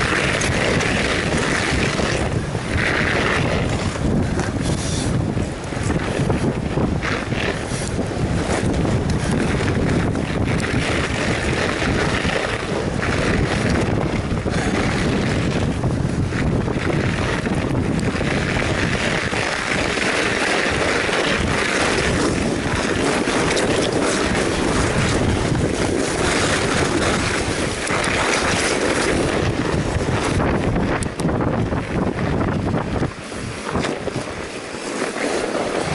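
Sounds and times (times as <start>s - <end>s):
tyres rolling on packed snow: 0.0s - 35.9s
wind buffeting microphone: 0.0s - 35.9s.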